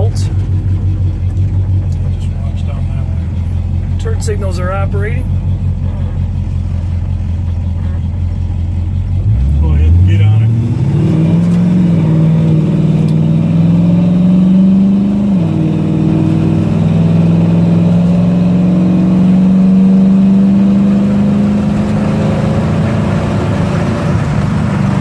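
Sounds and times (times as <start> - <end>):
pickup truck engine accelerating hard: 0.0 - 25.0.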